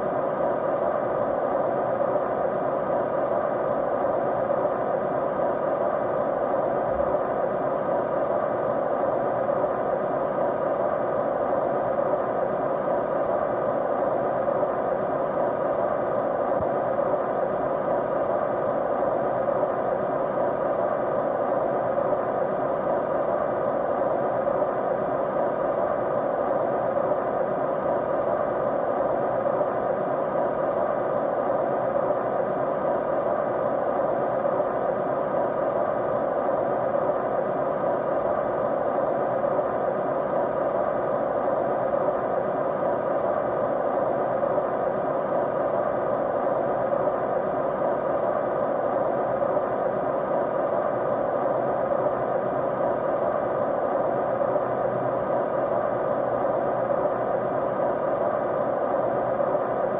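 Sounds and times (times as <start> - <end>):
faint steady tones: 0.0 - 59.9
steady white noise: 0.0 - 59.9.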